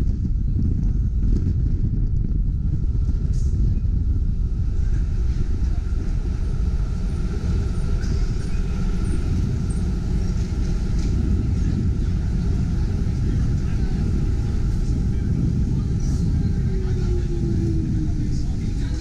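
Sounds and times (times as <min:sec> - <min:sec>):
streetcar rumble: 0:00.0 - 0:19.0.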